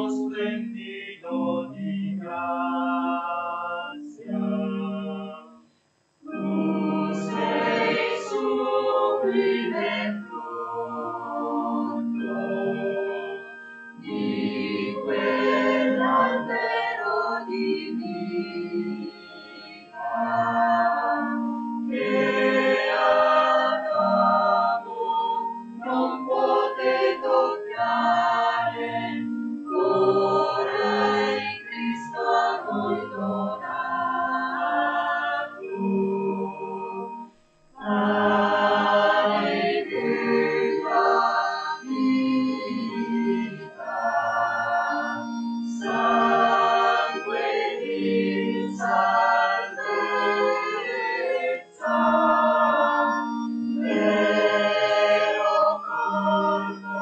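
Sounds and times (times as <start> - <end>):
voices singing a hymn: 0.0 - 5.6, 6.2 - 57.0
sustained organ accompaniment: 0.0 - 57.0.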